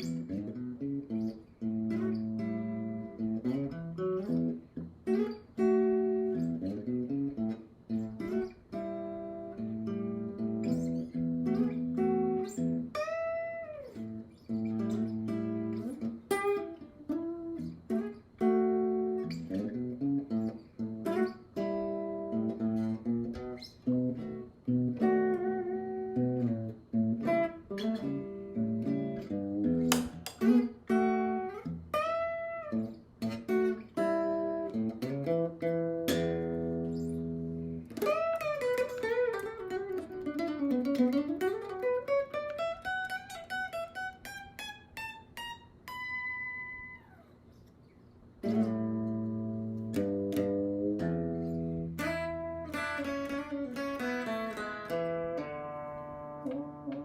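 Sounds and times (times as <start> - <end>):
bluesy guitar playing: 0.0 - 57.0.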